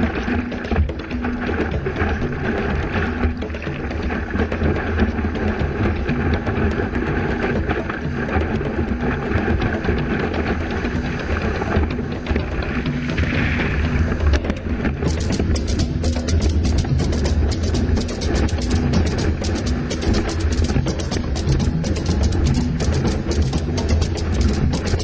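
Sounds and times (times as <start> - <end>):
wave breaking with a splash: 0.0 - 23.4
heavy low rumble: 0.0 - 25.0
turbulent water rushing: 0.0 - 25.0.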